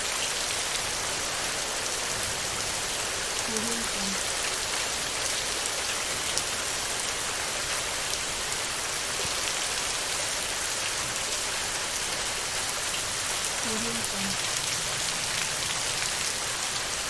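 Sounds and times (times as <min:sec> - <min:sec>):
heavy rain on a tin roof: 0:00.0 - 0:17.0.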